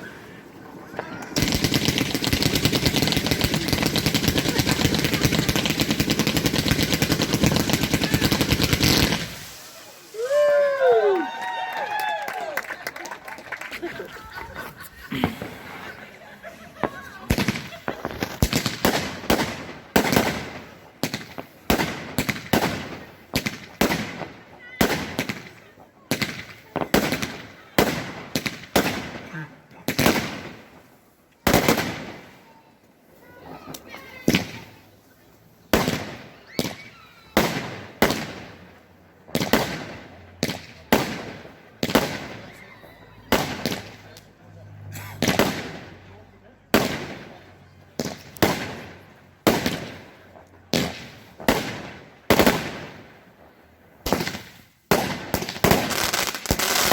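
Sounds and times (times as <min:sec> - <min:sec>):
firework bangs with crackle: 0:00.0 - 0:11.0, 0:15.1 - 0:44.3, 0:45.0 - 0:46.1, 0:46.7 - 0:56.9.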